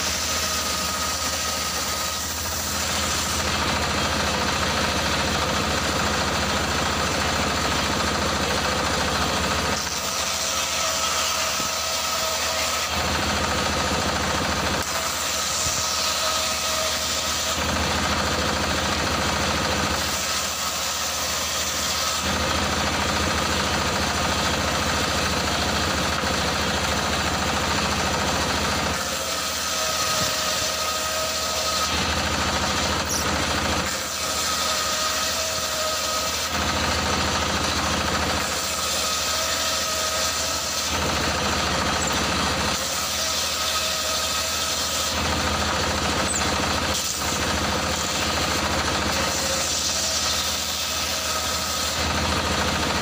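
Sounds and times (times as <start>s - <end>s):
diesel engine running: 0.0s - 10.4s, 12.9s - 20.6s, 21.8s - 34.2s, 35.0s - 38.7s, 39.7s - 43.3s, 44.1s - 53.0s
circular saw ripping boards: 0.0s - 53.0s.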